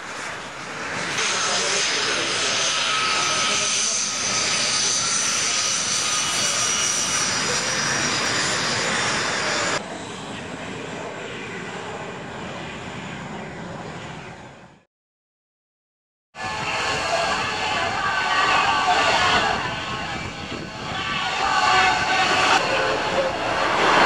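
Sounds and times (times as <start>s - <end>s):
jet engine rush and whine: 0.0s - 14.9s, 16.4s - 24.0s.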